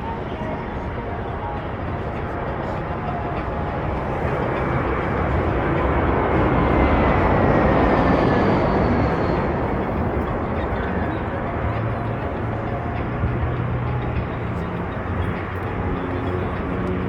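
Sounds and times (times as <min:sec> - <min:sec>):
airliner engine rumble overhead: 0:00.0 - 0:17.0.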